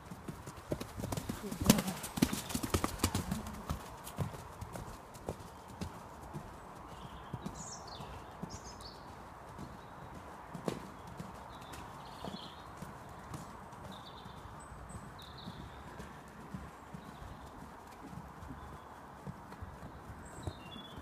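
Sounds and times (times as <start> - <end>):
hoofbeats cantering on dirt: 0.0 - 21.0.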